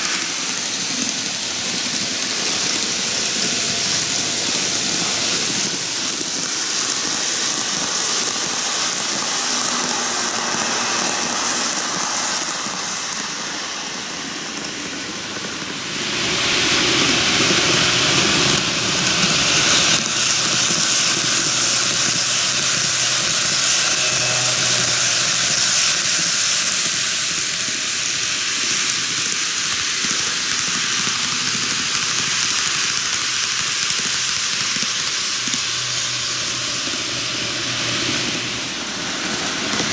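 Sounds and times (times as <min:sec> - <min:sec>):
model trains running on rails: 0:00.0 - 0:39.9.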